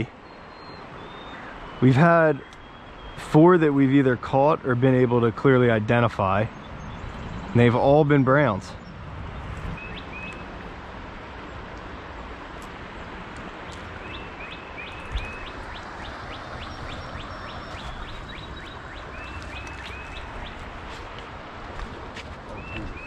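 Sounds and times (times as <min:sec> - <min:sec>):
small birds calling: 0:00.0 - 0:03.3, 0:06.2 - 0:10.7, 0:11.4 - 0:23.0
creek water rushing: 0:00.0 - 0:23.0.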